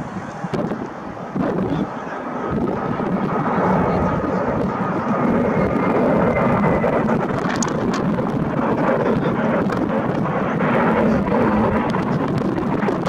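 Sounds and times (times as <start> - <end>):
jet engine roar: 0.0 - 13.0
wind buffeting microphone: 0.0 - 13.0.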